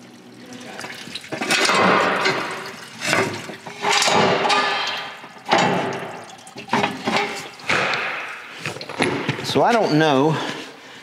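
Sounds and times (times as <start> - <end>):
liquid pouring from container: 0.0 - 9.4.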